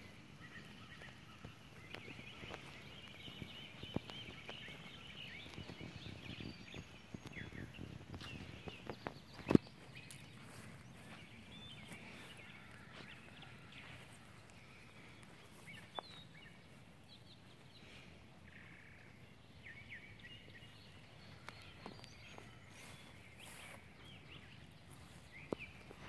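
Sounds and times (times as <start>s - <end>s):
birds chirping and whistling: 0.0s - 26.0s.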